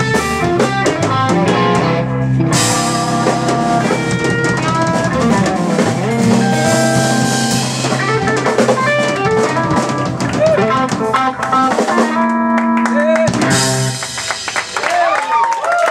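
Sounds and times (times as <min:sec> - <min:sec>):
blues band playing: 0:00.0 - 0:15.1.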